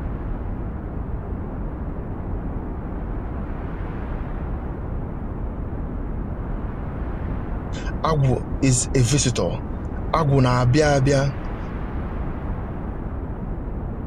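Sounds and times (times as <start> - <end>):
low rumbling rush: 0.0 - 14.0.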